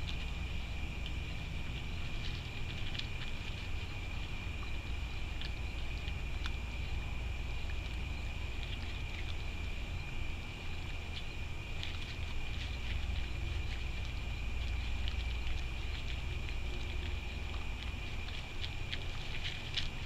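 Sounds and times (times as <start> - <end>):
animals chewing and rummaging: 0.0 - 20.0
continuous high-pitched tone: 0.0 - 20.0
steady low rumble: 0.0 - 20.0.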